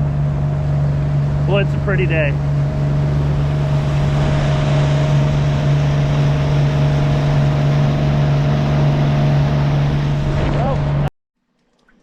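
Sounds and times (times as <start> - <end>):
boat motor running: 0.0 - 11.1.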